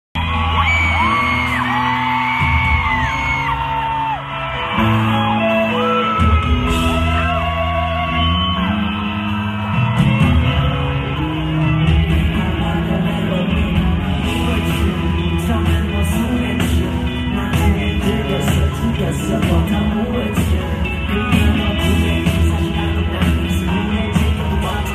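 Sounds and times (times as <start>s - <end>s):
amplified pop music with singer: 0.2s - 24.9s.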